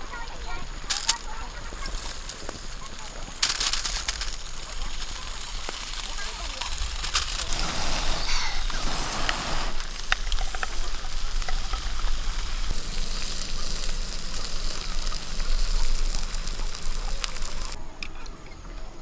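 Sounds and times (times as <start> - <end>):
fire hissing: 0.0 - 17.8
fire crackling: 0.0 - 18.3.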